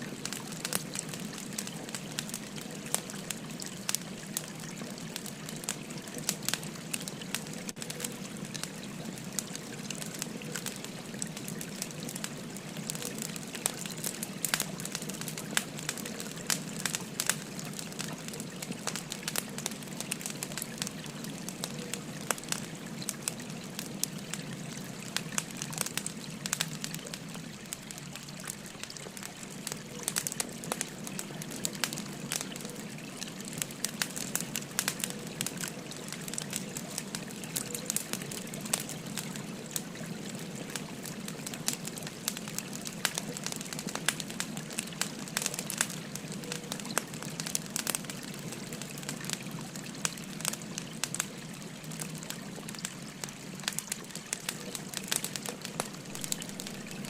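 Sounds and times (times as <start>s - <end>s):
firewood crackling and popping: 0.0s - 57.0s.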